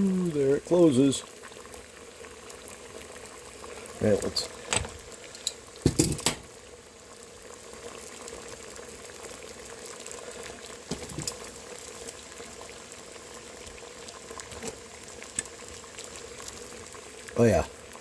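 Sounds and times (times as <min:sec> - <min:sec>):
water boiling: 0:00.0 - 0:18.0.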